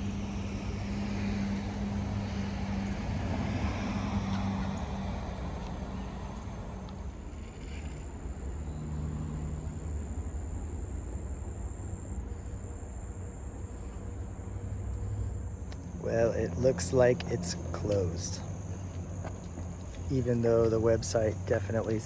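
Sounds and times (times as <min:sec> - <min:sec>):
crickets chirring: 0:00.1 - 0:22.0.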